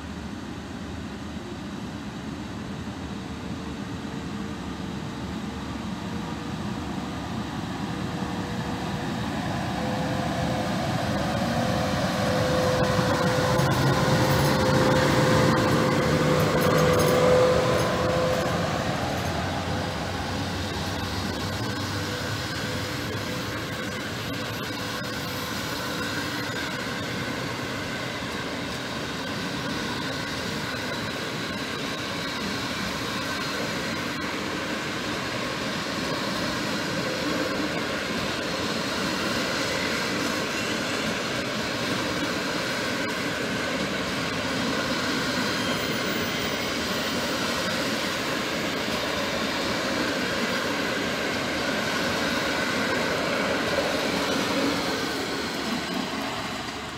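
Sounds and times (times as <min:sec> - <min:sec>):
train wheels on rails: 0:01.0 - 0:56.9
faint steady tones: 0:03.1 - 0:56.9.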